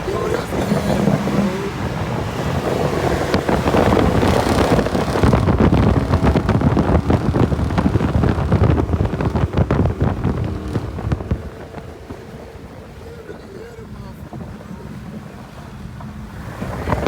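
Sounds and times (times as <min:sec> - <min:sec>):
car exhaust running hard: 0:00.0 - 0:17.0
wind rushing through windows: 0:00.0 - 0:17.0.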